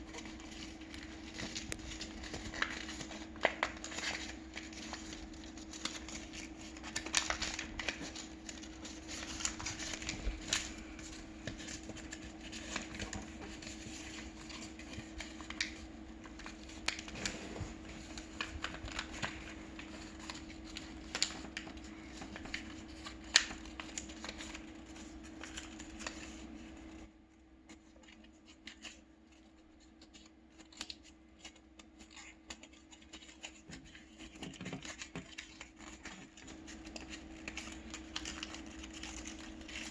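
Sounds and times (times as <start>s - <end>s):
paper crinkling and creasing: 0.0s - 27.1s, 27.7s - 39.9s.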